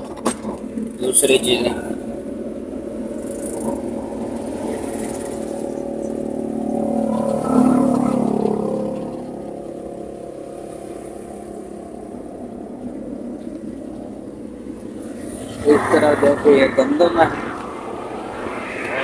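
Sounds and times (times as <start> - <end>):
vehicle engine idling: 0.0 - 18.6.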